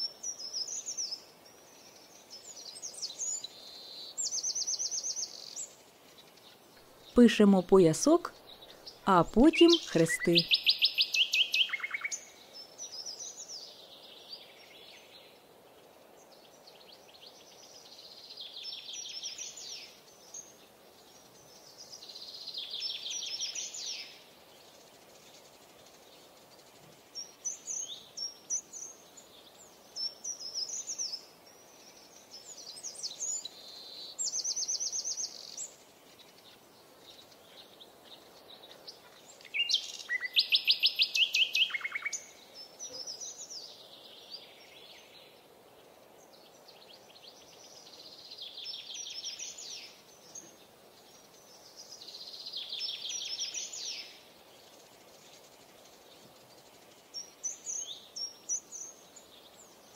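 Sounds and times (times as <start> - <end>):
songbirds singing trills: 0.0 - 59.9.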